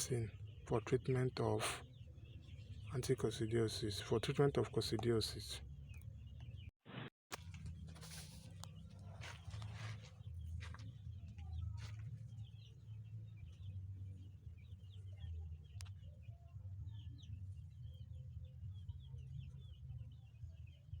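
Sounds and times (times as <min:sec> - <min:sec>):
chicks peeping: 0:00.0 - 0:06.7, 0:07.9 - 0:21.0.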